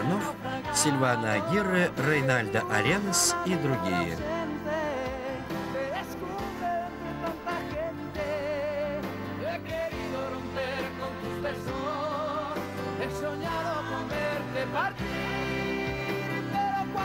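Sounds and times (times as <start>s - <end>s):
instrumental backing: 0.0s - 17.0s
person singing with vibrato: 0.0s - 17.0s.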